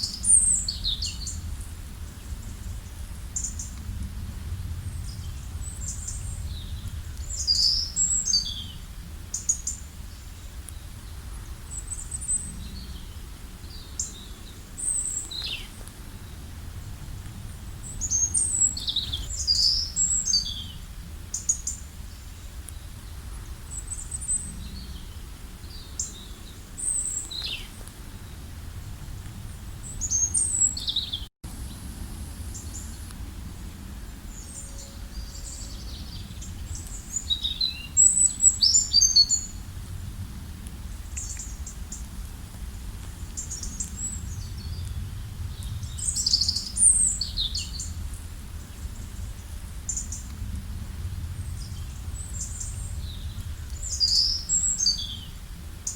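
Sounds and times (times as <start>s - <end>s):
songbirds singing and chirping: 0.0s - 4.1s, 4.7s - 28.4s, 29.2s - 31.9s, 32.5s - 39.7s, 40.6s - 50.5s, 51.1s - 55.9s
low background rumble: 0.0s - 55.9s.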